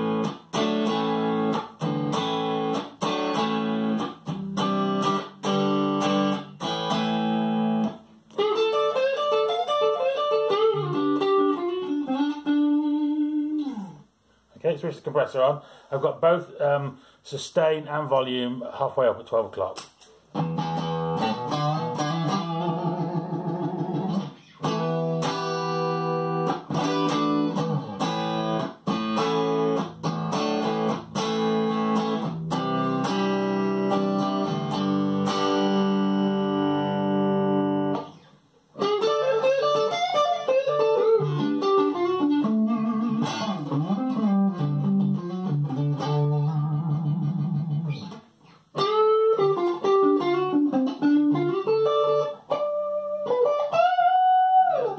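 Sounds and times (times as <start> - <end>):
clean electric guitar: 0.0 - 14.1, 20.3 - 54.9.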